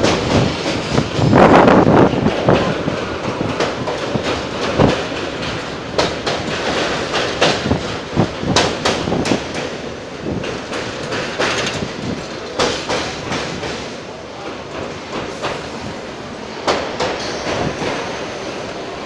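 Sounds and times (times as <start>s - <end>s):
wheels clattering over rail joints: 0.0s - 15.9s.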